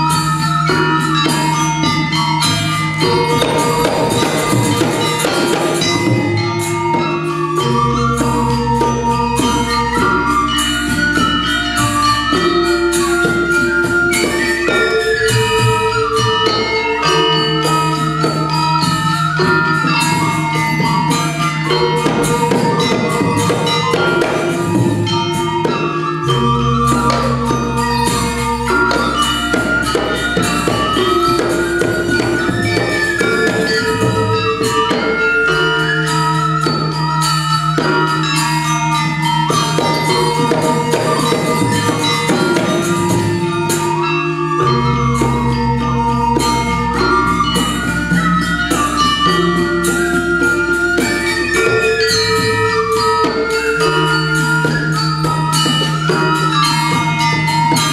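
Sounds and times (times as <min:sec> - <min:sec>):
hand drums: 0:00.0 - 0:57.9
metallophones striking quick notes: 0:00.0 - 0:57.9.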